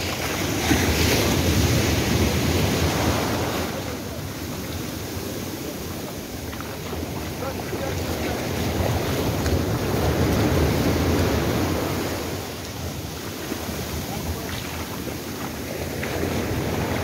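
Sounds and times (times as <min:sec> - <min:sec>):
surf washing on sand: 0:00.0 - 0:17.0
wind rumbling on microphone: 0:00.0 - 0:17.0.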